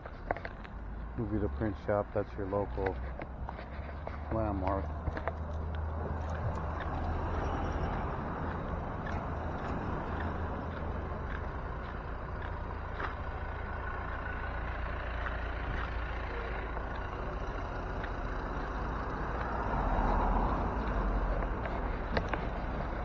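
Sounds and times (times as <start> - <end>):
vehicle engine and road rumble: 0.0 - 23.0.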